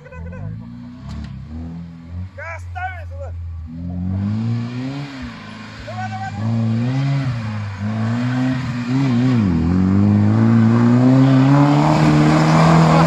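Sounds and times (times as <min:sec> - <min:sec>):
off-road engine revving: 0:00.0 - 0:13.0.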